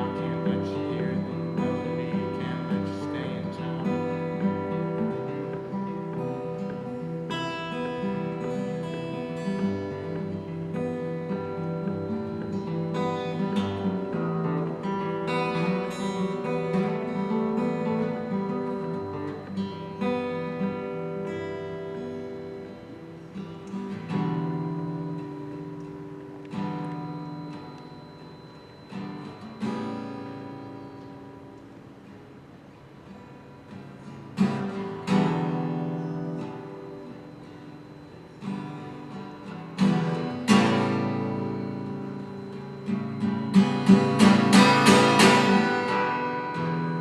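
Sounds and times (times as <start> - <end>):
acoustic guitar chords: 0.0 - 47.0.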